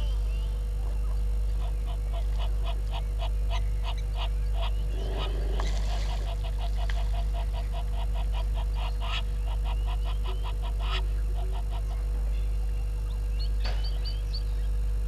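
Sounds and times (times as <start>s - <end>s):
bird honking calls: 0.0s - 14.7s
steady low hum: 0.0s - 15.0s.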